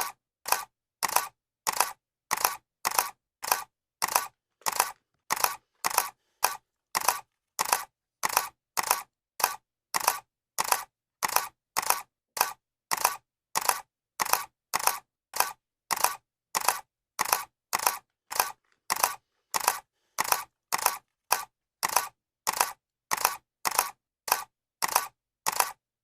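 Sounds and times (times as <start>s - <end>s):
camera shutter clicks: 0.0s - 25.8s.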